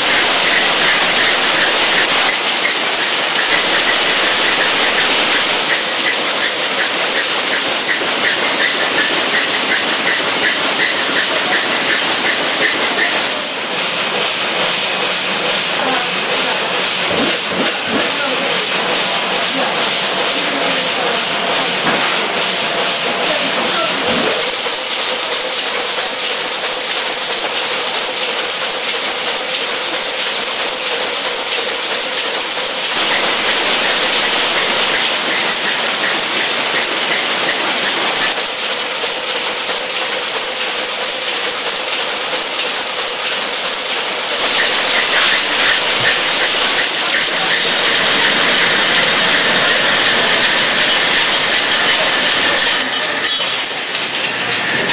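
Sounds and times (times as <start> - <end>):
power looms clattering: 0.0 - 54.9.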